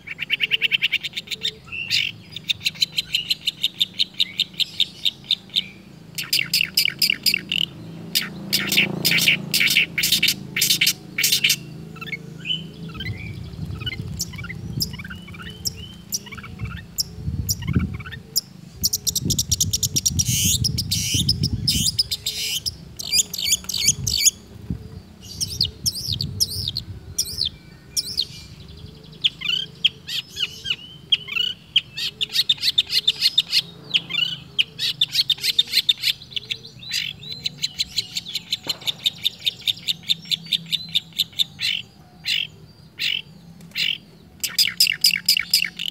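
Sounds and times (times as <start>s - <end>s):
bird singing varied mimicking song: 0.0s - 45.9s.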